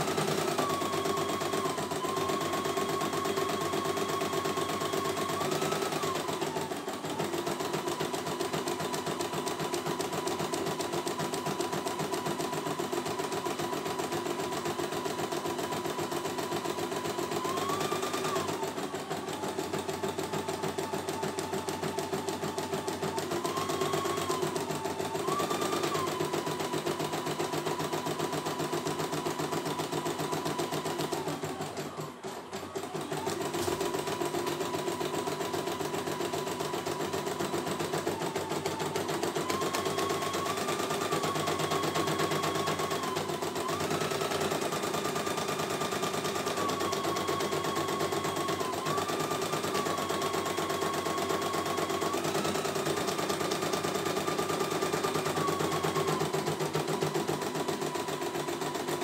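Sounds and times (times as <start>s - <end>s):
embroidery machine stitching: 0.0s - 59.0s.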